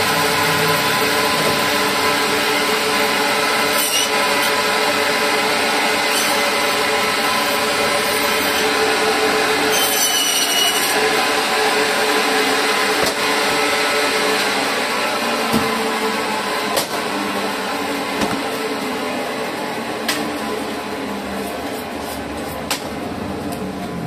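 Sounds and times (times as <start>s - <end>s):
band saw running: 0.0s - 23.7s.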